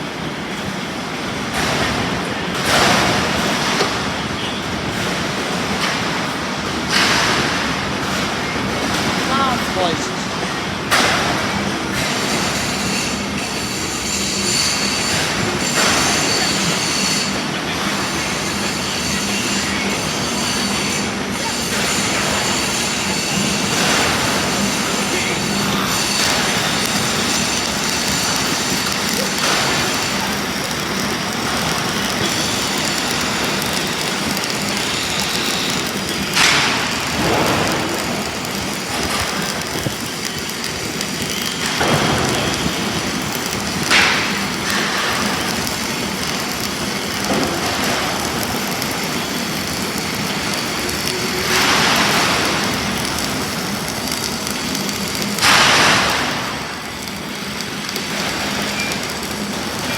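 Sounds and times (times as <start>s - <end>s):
arc welding noise: 0.0s - 59.9s.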